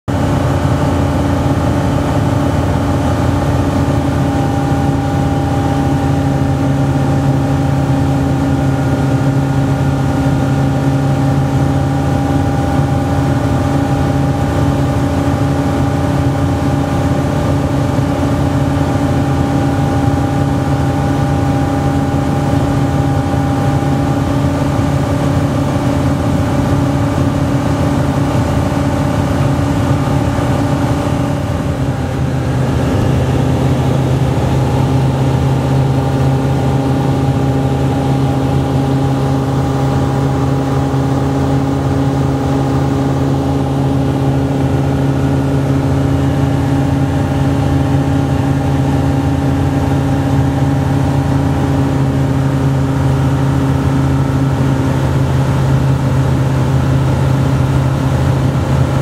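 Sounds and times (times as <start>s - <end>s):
light aircraft engine drone: 0.1s - 59.0s.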